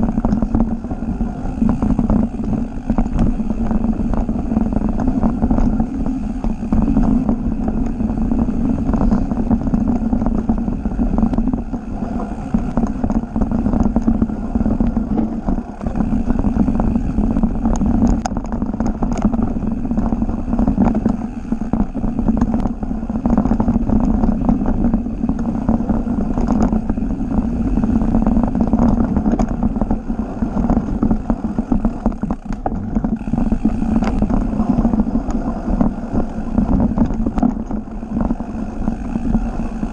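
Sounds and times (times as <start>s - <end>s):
bike clattering over roots: 0.0s - 39.9s
wind and tyres rushing: 0.0s - 39.9s.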